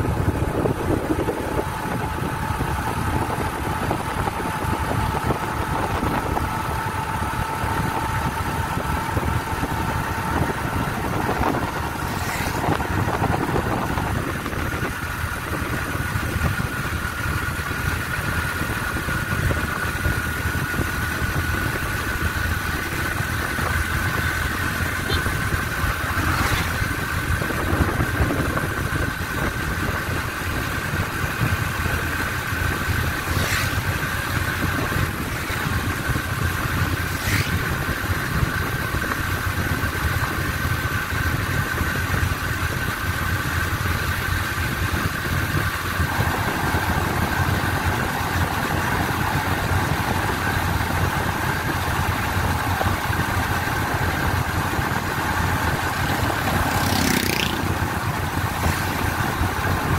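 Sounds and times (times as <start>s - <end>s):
low road rumble: 0.0s - 59.9s
steady high whine: 0.0s - 59.9s
vehicle engine running: 0.0s - 59.9s.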